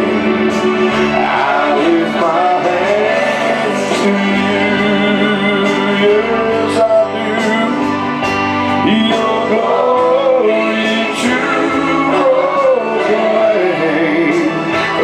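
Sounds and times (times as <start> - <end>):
held instrumental chords: 0.0 - 15.0
people singing: 0.0 - 15.0.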